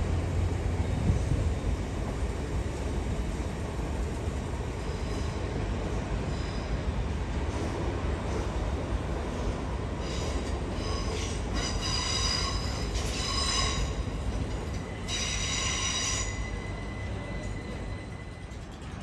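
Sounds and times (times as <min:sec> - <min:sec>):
low train rumble: 0:00.0 - 0:19.0
train wheels squealing on rails: 0:00.1 - 0:19.0.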